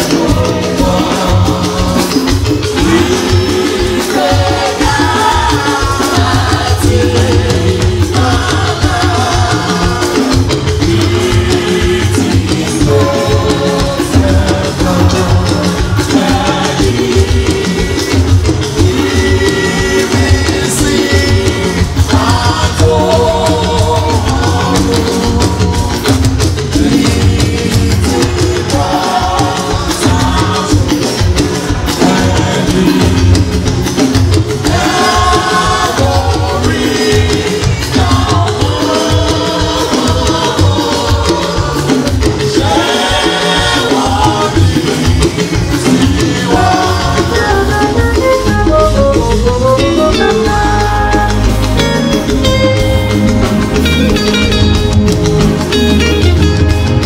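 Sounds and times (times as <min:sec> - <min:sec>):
choir singing a hymn: 0:00.0 - 0:51.1
drum kit and percussion beat: 0:00.0 - 0:57.0.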